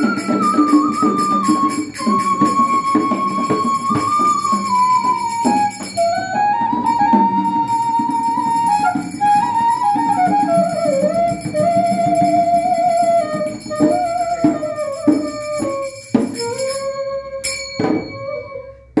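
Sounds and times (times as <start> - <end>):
bamboo flute melody: 0.0 - 19.0
sharp percussion strikes: 0.0 - 19.0.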